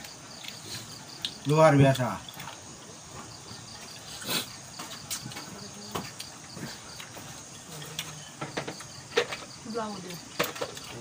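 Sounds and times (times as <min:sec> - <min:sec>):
chewing: 0:00.0 - 0:09.0
insect trilling: 0:00.0 - 0:11.0.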